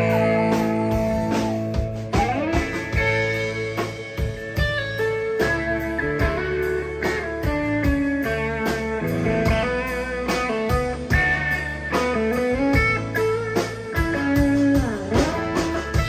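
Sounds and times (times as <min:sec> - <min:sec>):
bass: 0:00.0 - 0:16.0
drum beat: 0:00.0 - 0:16.0
electric guitar lead: 0:00.0 - 0:16.0.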